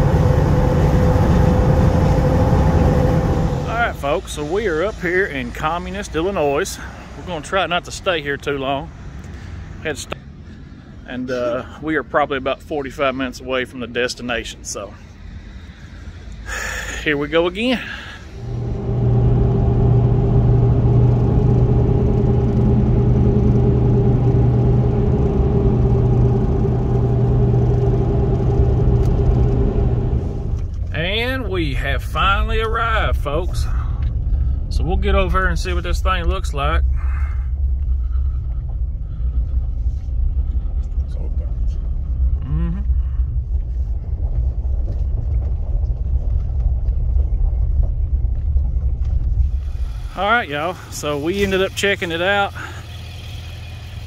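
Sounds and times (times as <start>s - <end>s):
truck engine and road drone: 0.0s - 54.0s.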